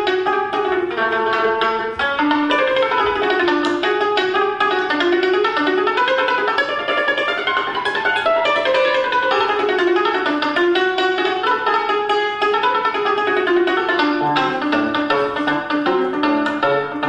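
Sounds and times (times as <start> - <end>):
cimbalom played with hammers: 0.0 - 17.0.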